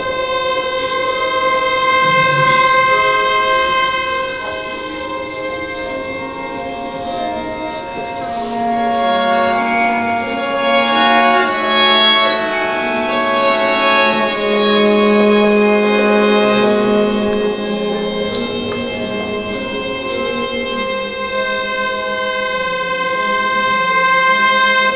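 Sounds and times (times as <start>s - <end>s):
string quartet sustained notes: 0.0s - 24.9s.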